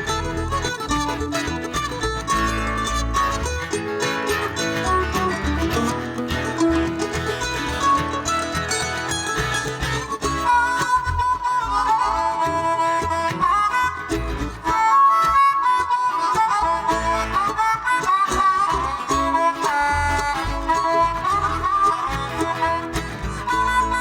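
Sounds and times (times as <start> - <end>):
bluegrass lead line: 0.0 - 24.0
guitar accompaniment: 0.0 - 24.0.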